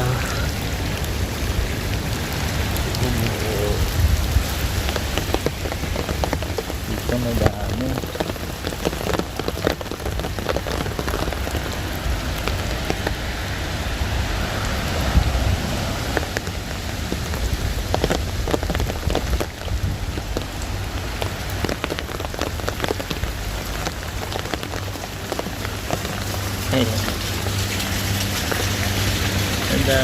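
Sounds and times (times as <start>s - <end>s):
rain hissing: 0.0s - 30.0s
hail ticking on hard surfaces: 1.9s - 13.2s, 16.0s - 30.0s.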